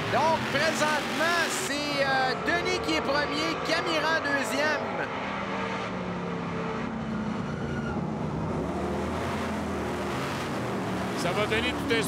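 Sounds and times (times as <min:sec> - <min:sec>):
race truck engines running hard: 0:00.0 - 0:12.0.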